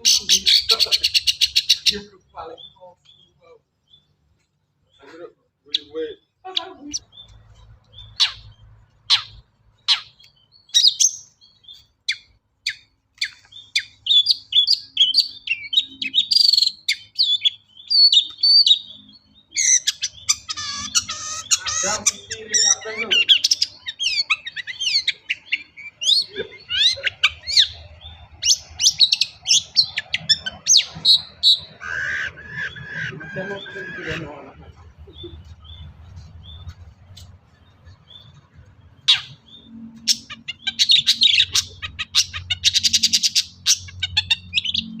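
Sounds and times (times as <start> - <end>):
bird chattering trill: 0.0 - 4.1, 5.0 - 36.8, 39.0 - 45.0.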